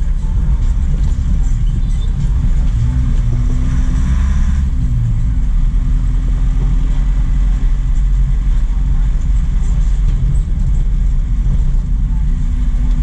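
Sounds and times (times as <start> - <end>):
road noise: 0.0 - 13.0
truck engine humming: 0.0 - 13.0.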